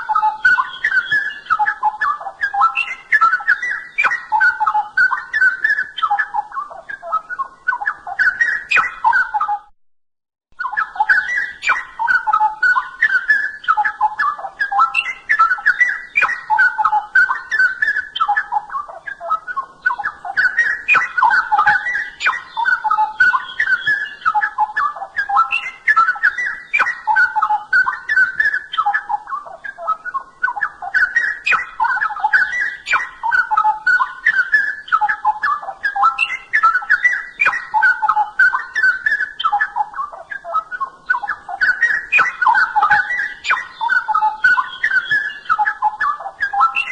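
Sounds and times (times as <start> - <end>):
bird singing fluty warbling phrases: 0.0 - 9.7, 10.6 - 46.9.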